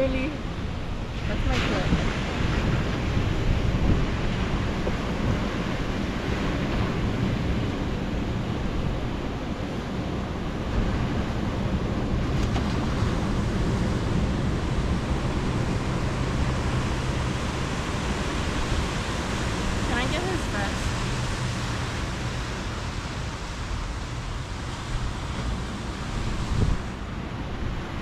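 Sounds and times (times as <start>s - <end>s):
ocean surf washing ashore: 0.0s - 28.0s
wind buffeting microphone: 0.0s - 28.0s.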